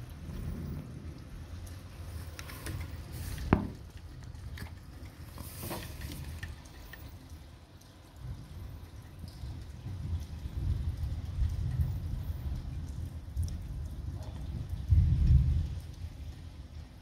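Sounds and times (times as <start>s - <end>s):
rain dripping and pattering: 0.0s - 17.0s.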